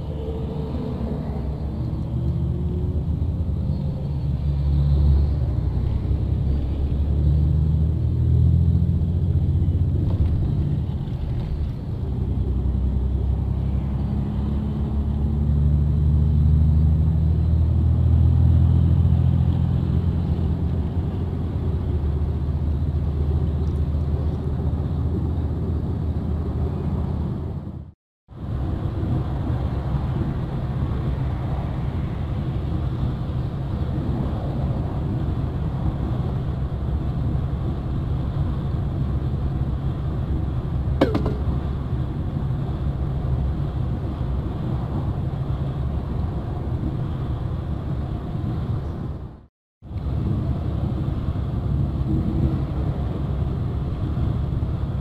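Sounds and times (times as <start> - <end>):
road rumble: 0.0 - 55.0
vehicle engine drone: 0.0 - 55.0.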